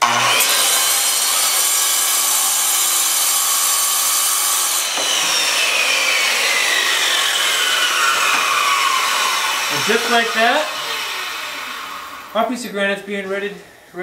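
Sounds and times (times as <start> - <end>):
circular saw grinding stone: 0.0 - 12.3.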